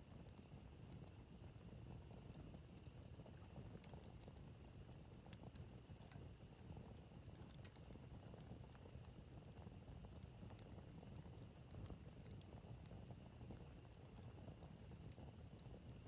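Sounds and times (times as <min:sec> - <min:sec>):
campfire crackling: 0:00.1 - 0:16.0.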